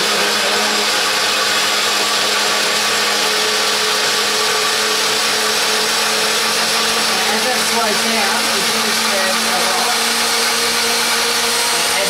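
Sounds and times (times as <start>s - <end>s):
blender motor whirring: 0.0s - 12.0s.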